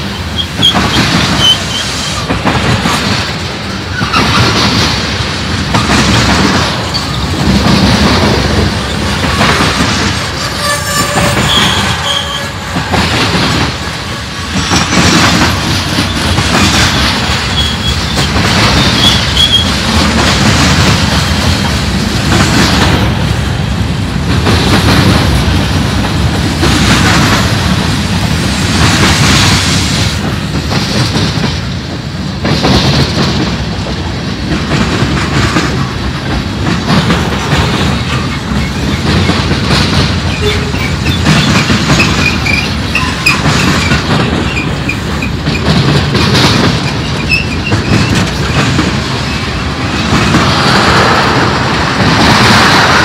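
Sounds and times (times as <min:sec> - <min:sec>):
rail clacking: 0:00.0 - 0:53.0
train wheels rumbling on rails: 0:00.0 - 0:53.0.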